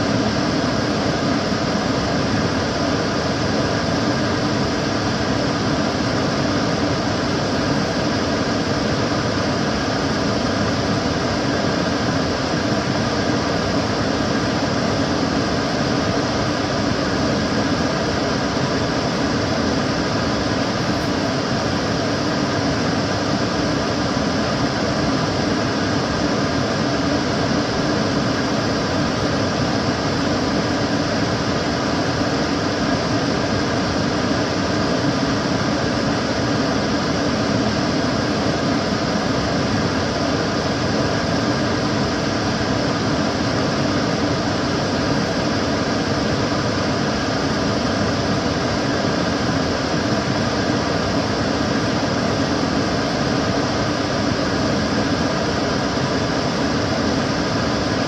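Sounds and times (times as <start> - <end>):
extractor fan rushing air: 0.0 - 58.0
faint hum: 0.0 - 58.0.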